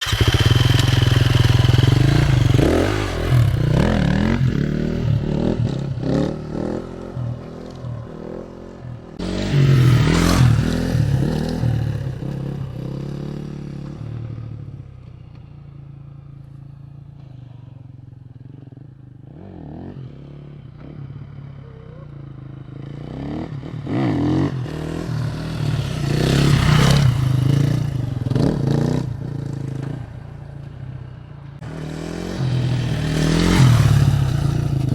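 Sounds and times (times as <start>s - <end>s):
motorcycle engine revving: 0.0s - 30.7s, 31.5s - 34.9s.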